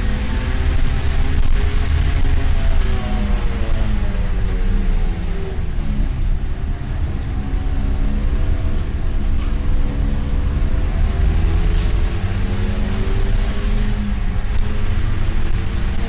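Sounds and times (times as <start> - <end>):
car engine accelerating: 0.0 - 16.0
road and drivetrain rumble: 0.0 - 16.0.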